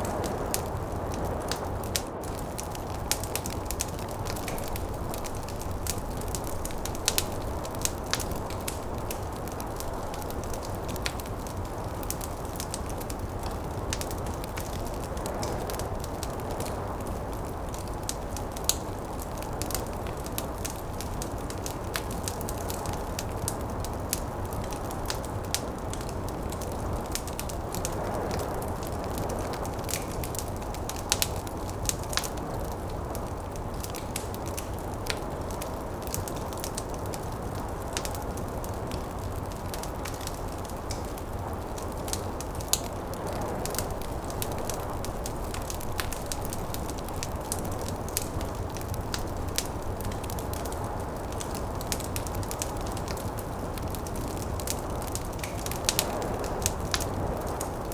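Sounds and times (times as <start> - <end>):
snowstorm wind rumble: 0.0 - 57.9
wood fire crackling: 0.0 - 57.9.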